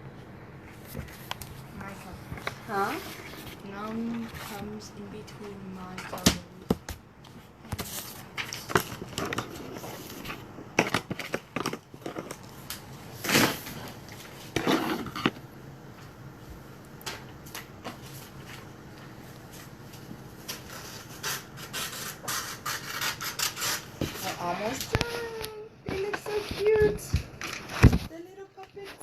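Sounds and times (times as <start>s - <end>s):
paper rustling and crinkling: 0.7s - 15.4s, 17.1s - 28.1s.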